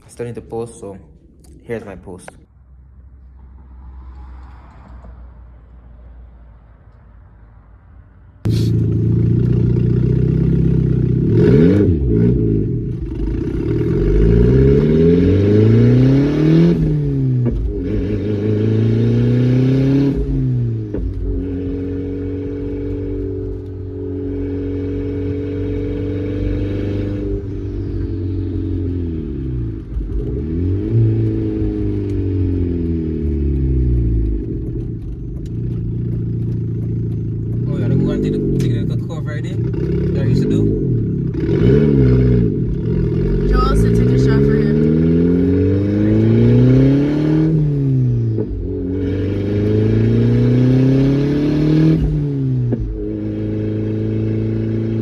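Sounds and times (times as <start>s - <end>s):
car engine revving: 8.4s - 55.0s.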